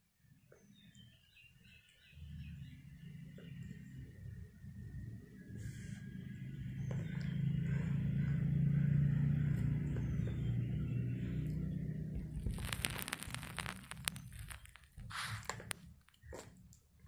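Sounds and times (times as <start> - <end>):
low engine rumble: 2.1 - 16.8.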